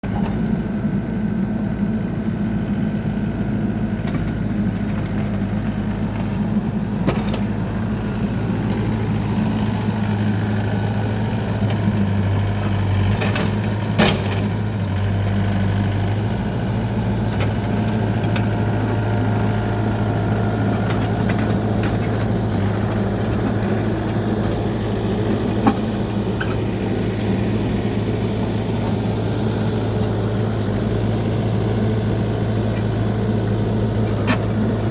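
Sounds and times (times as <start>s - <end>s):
heavy machine engine idling: 0.0s - 34.9s.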